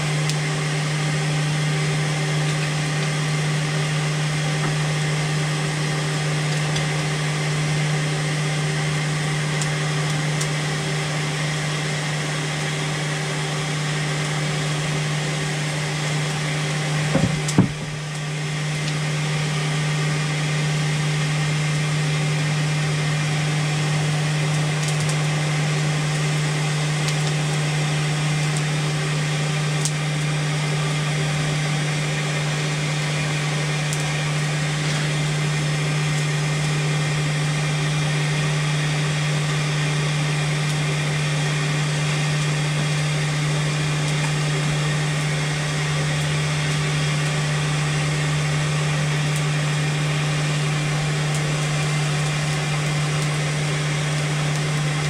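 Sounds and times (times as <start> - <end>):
blower motor hum and hiss: 0.0 - 55.0.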